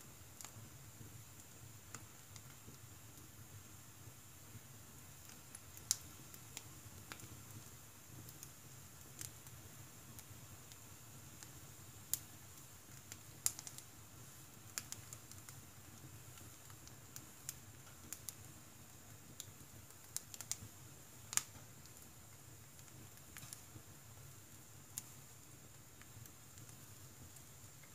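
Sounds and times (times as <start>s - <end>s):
firewood crackling in stove: 0.0s - 27.9s.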